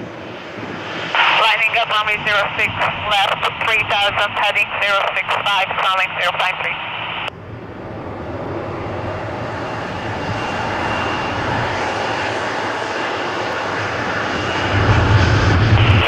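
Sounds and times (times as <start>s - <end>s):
faint high jet whine: 0.0s - 16.0s
jet engines rushing: 0.0s - 16.0s.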